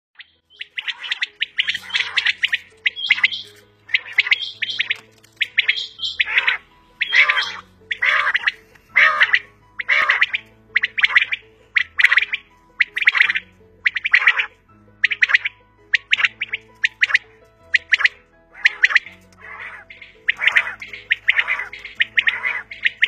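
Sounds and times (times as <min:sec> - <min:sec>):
quail calling: 0:00.2 - 0:23.0.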